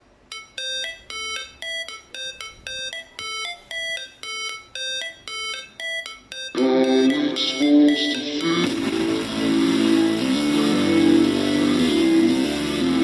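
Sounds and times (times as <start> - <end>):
bright melody from speaker: 0.3 - 13.0.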